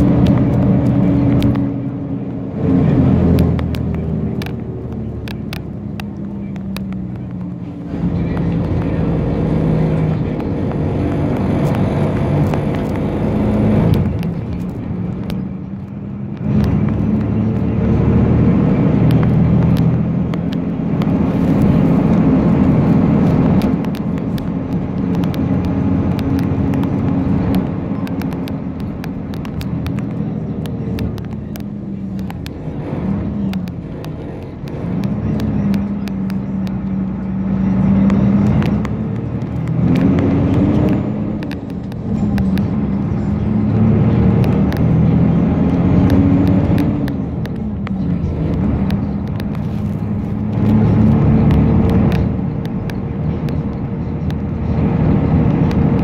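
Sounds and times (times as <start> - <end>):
bus body rattling: 0.0 - 56.0
bus engine pulling: 0.0 - 56.0.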